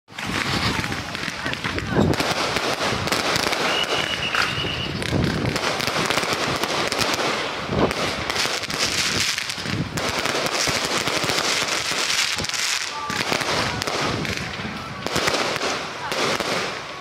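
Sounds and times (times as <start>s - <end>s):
firecracker barrage crackling: 0.1s - 17.0s.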